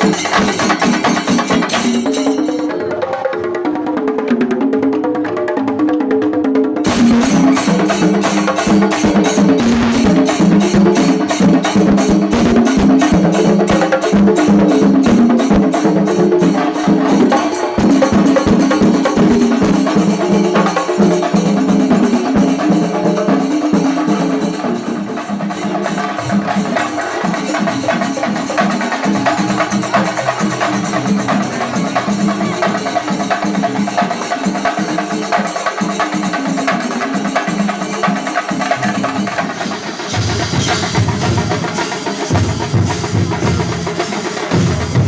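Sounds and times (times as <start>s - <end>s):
music with fast dense percussion: 0.0s - 45.0s.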